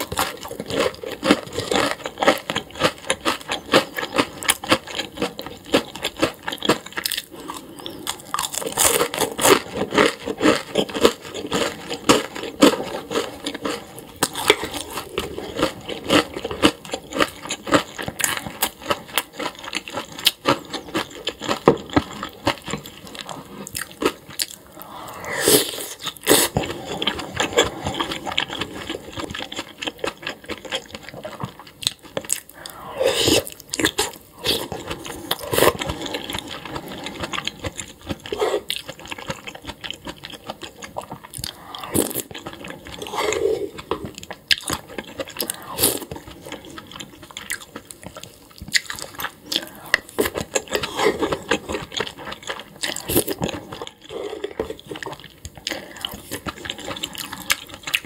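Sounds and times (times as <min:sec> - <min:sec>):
person crunching and chewing food: 0:00.0 - 0:58.0.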